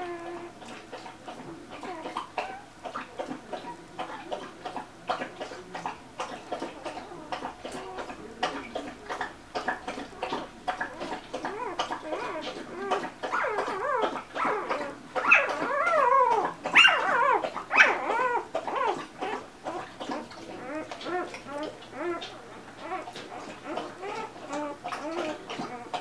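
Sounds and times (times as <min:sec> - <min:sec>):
puppies squeaking and grunting: 0:00.0 - 0:26.0
small clicks and smacking: 0:00.0 - 0:26.0.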